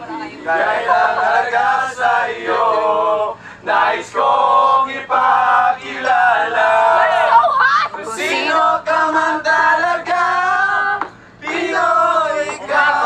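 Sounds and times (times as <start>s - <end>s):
group singing loudly: 0.0s - 13.0s.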